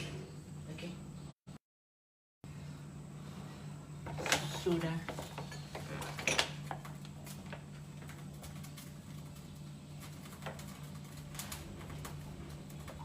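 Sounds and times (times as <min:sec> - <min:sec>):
steady low hum: 0:02.4 - 0:13.0.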